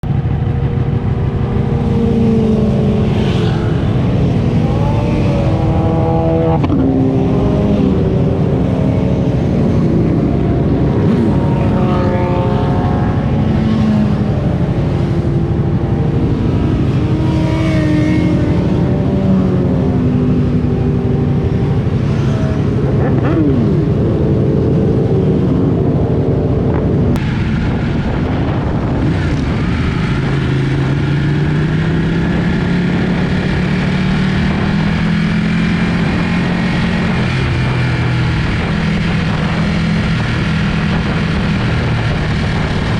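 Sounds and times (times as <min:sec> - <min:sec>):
motorcycle engine revving: 0:00.0 - 0:42.9
road and wind noise: 0:00.0 - 0:42.9.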